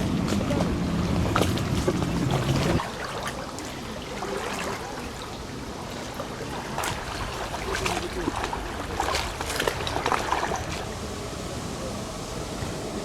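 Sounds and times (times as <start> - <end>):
water lapping and trickling: 0.0 - 13.0.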